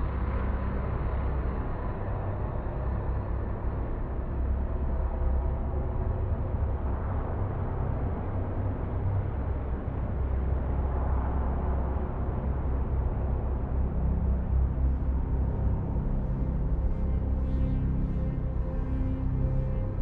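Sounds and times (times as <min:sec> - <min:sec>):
low rumbling drone: 0:00.0 - 0:20.0.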